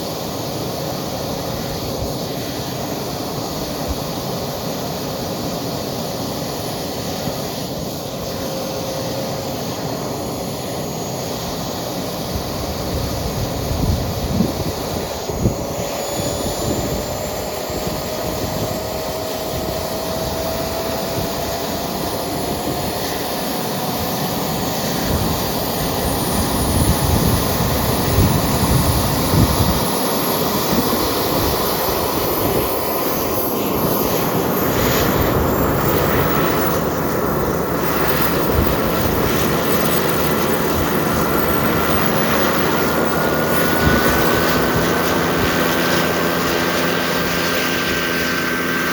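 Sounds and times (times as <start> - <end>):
model jet turbine engine spooling up: 0.0 - 48.9.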